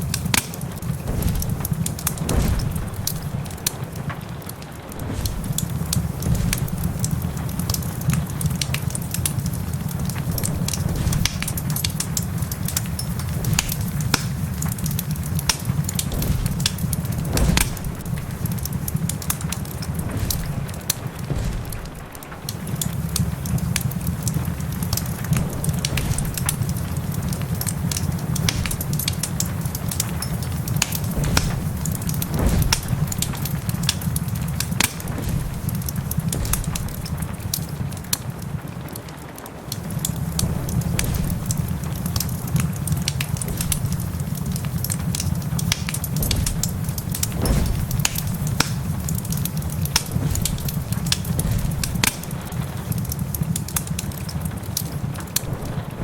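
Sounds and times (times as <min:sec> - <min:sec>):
low fire rumble: 0:00.0 - 0:56.0
sharp pops of fire: 0:00.0 - 0:56.0
wood fire crackling: 0:00.0 - 0:56.0.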